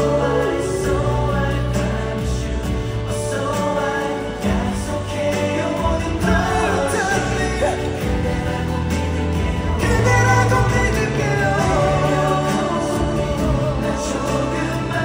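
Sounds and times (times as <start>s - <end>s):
band playing: 0.0s - 15.0s
people singing: 0.0s - 15.0s
steady bass notes: 0.0s - 15.0s.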